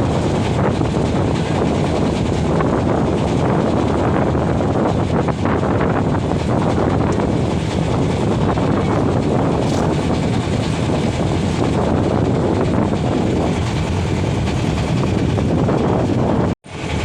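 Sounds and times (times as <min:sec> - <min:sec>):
moving vehicle rumbling: 0:00.0 - 0:17.0.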